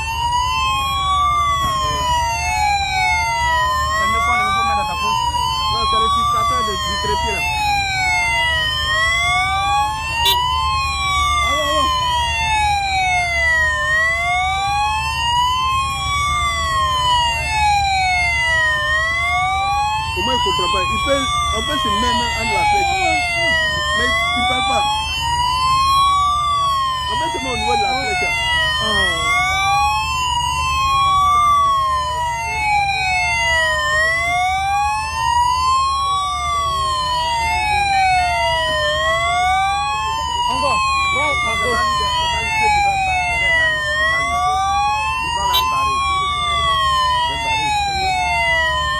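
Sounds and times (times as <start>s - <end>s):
sirens wailing: 0.0s - 48.9s.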